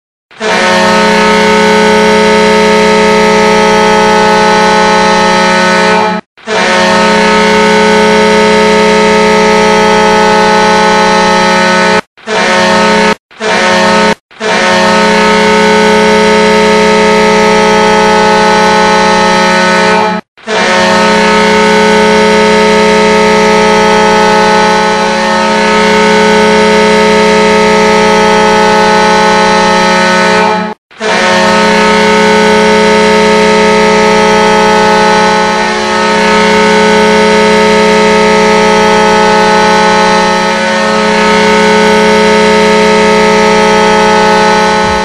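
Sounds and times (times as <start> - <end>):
hockey goal horn blasts: 0.3 - 45.0.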